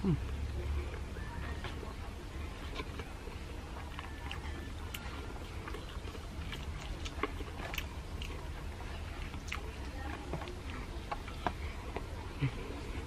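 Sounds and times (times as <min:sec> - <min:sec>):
person chewing: 0:02.5 - 0:13.0.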